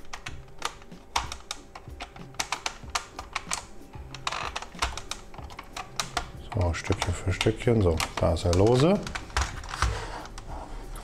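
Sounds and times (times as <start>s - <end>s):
plastic clicks and scrapes: 0.0s - 10.5s.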